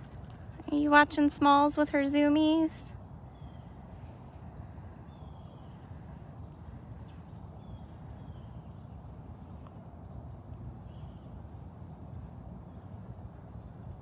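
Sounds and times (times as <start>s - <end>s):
birds chirping: 0.0s - 11.7s
steady low rumble: 0.0s - 14.0s.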